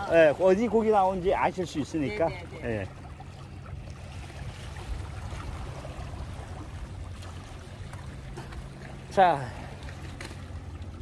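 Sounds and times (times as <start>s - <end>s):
small waves lapping on rocks: 0.0s - 11.0s.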